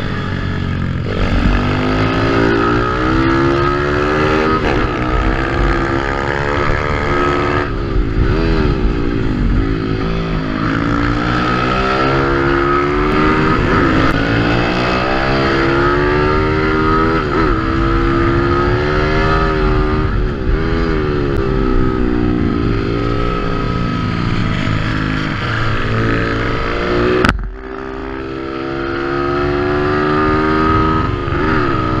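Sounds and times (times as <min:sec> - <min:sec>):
motorbike engine at high revs: 0:00.0 - 0:32.0.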